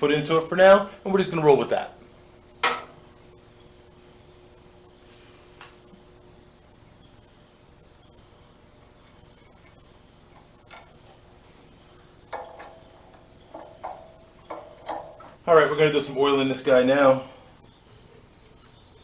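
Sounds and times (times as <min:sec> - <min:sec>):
insects trilling: 0:00.0 - 0:19.0
insect pulsed chirp: 0:00.8 - 0:19.0.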